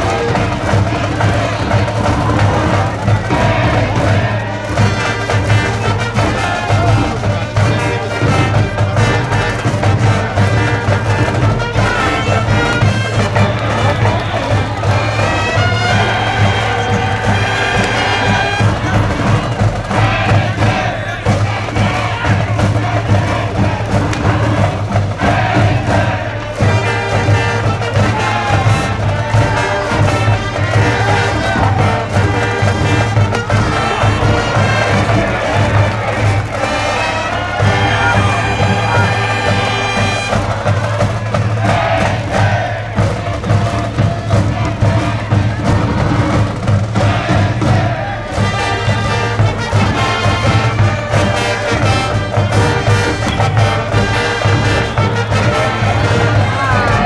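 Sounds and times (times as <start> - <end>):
brass band playing: 0.0 - 57.0
steady low beat: 0.0 - 57.0.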